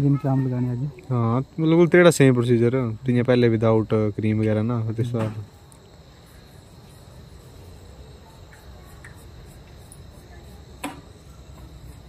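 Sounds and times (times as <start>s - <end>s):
crickets droning: 0.0s - 12.0s.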